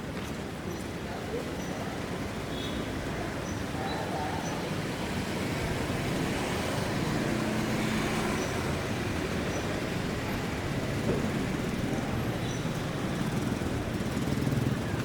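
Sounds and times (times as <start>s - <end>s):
road traffic passing: 0.0s - 15.0s
faint voices: 0.4s - 15.0s.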